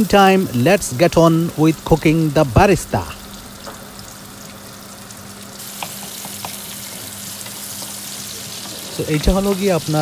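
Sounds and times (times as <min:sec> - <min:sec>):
onions sizzling in a frying pan: 0:00.0 - 0:10.0.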